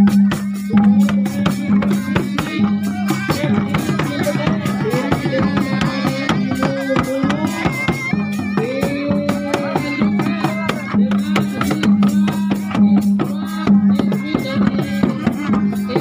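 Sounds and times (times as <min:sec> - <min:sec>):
fast dense drumming: 0:00.0 - 0:16.0
wavering melody: 0:00.0 - 0:16.0.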